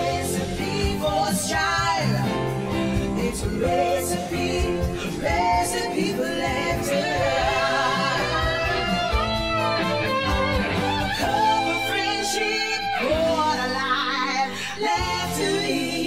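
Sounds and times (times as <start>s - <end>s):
live band playing: 0.0s - 14.4s.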